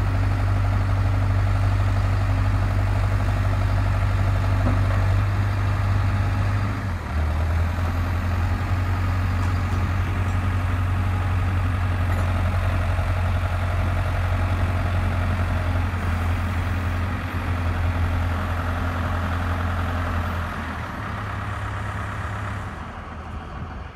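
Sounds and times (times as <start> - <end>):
telehandler engine running: 0.0 - 23.9.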